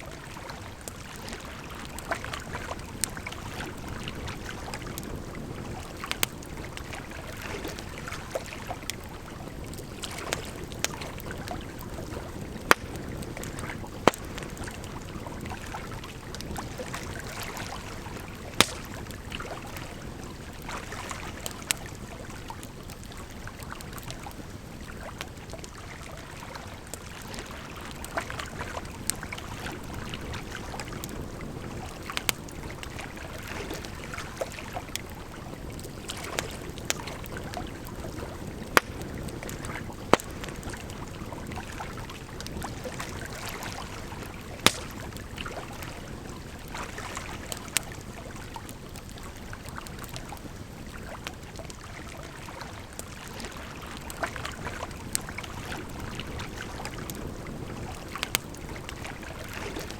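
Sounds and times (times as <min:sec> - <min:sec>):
rushing water: 0:00.0 - 0:59.9
campfire crackling and popping: 0:00.1 - 0:59.9.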